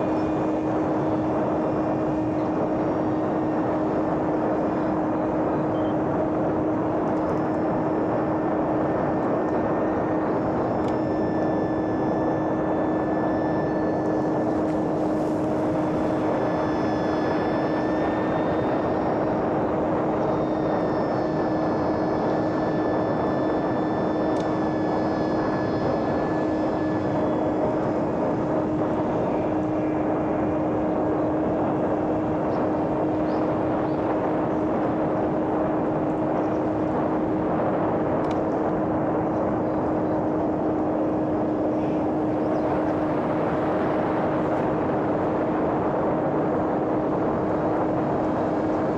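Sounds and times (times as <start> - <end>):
electric motor and propeller: 0.0 - 48.9.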